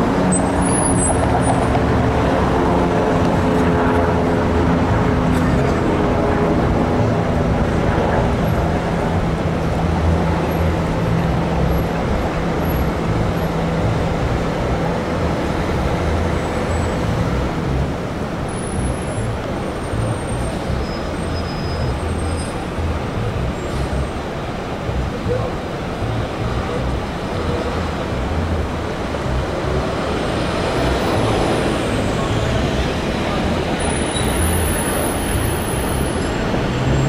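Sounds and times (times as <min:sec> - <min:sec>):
street traffic noise: 0:00.0 - 0:37.0
streetcar low hum: 0:00.0 - 0:37.0.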